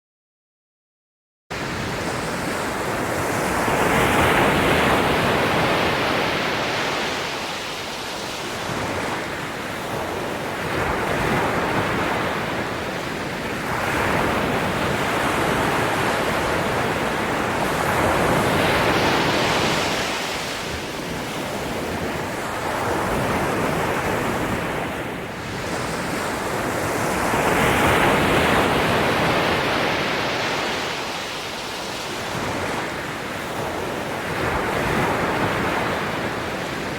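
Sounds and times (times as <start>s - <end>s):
ocean waves breaking: 1.6s - 36.9s.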